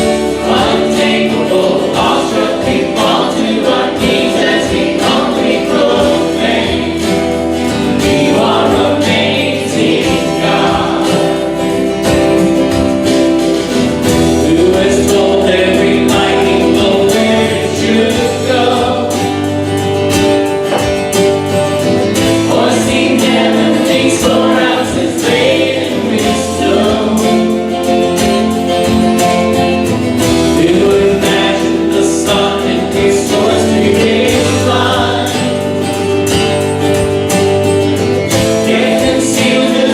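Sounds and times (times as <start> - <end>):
congregation singing: 0.0 - 39.9
guitar accompaniment: 0.0 - 39.9.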